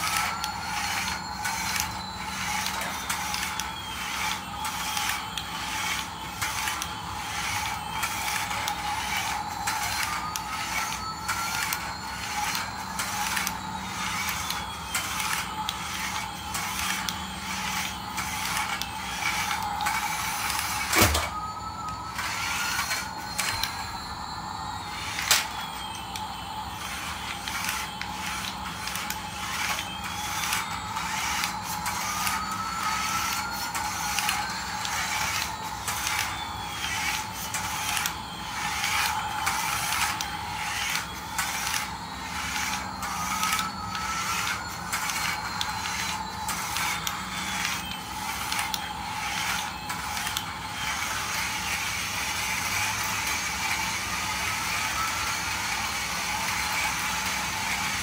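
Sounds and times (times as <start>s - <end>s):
toy motor and gears whirring: 0.0s - 58.0s.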